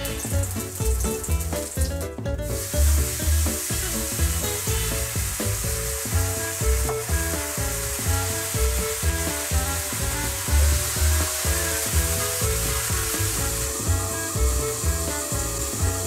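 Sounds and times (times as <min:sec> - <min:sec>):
mushrooms sizzling in oil: 0:00.0 - 0:16.0
music with pulsing bass beat: 0:00.0 - 0:16.0.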